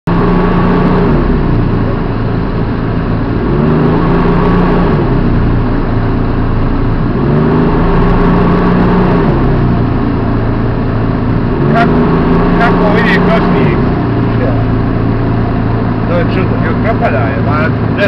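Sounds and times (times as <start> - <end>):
tracked vehicle engine running: 0.0 - 18.0
water rushing: 0.1 - 18.0.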